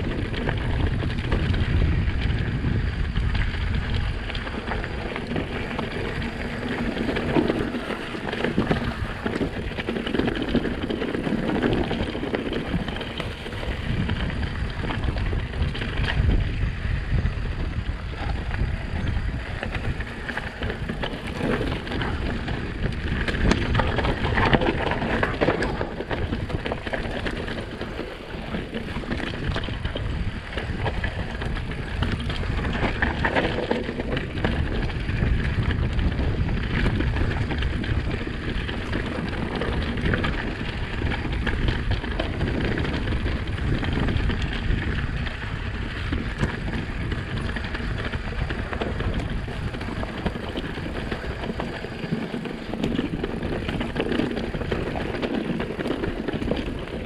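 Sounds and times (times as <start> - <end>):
bike rattling over bumps: 0.0 - 57.0
bike tyres rolling on dirt: 0.0 - 57.0.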